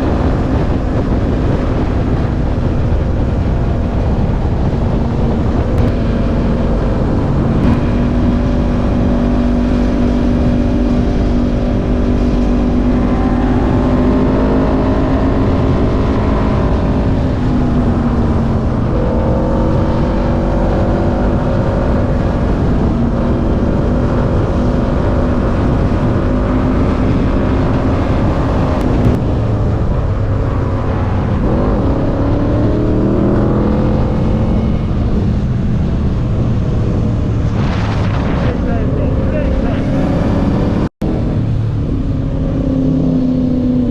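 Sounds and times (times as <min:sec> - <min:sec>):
wind rumble on microphone: 0:00.0 - 0:43.9
engine revving through gears: 0:05.6 - 0:43.9.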